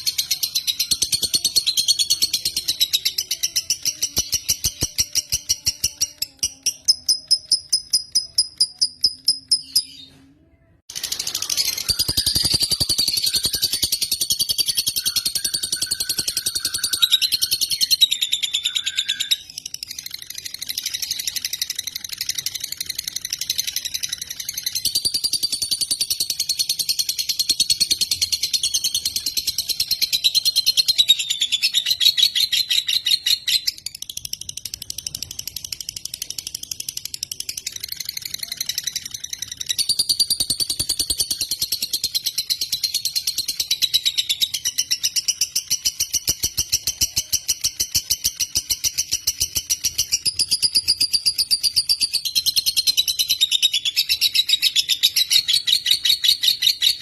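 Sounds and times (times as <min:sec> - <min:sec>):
bird chattering with high chirps: 0:10.9 - 0:57.0.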